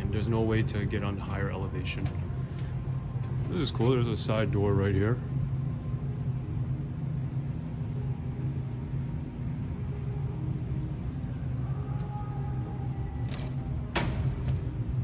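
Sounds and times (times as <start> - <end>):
low hum of indoor hall: 0.0 - 15.0.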